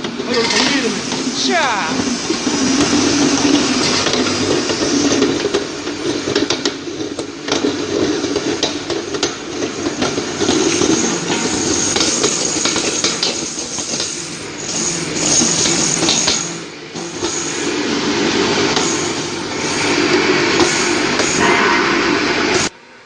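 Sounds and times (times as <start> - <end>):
grinding machine humming: 0.0 - 22.7.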